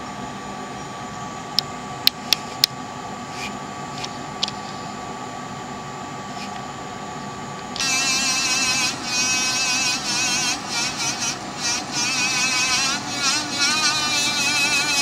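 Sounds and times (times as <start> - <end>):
rotary tool high whine: 0.0 - 15.0.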